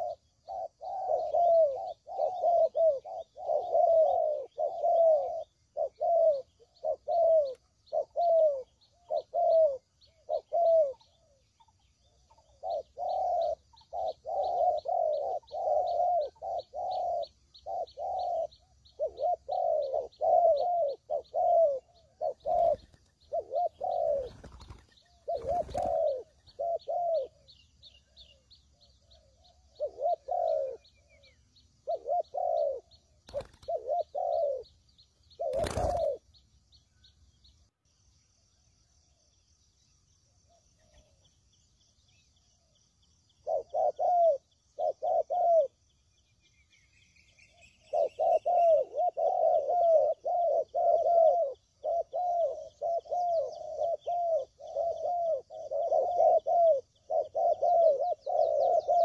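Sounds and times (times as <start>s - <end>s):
dove cooing: 0.0s - 36.4s, 42.6s - 45.9s, 47.2s - 59.0s.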